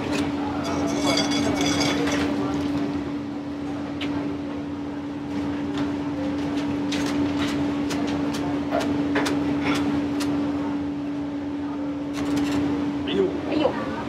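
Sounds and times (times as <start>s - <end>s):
ventilation fan humming: 0.0s - 14.0s.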